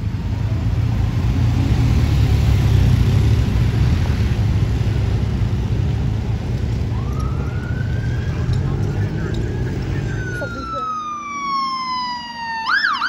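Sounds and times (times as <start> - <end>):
vehicle engines driving past: 0.0 - 13.0.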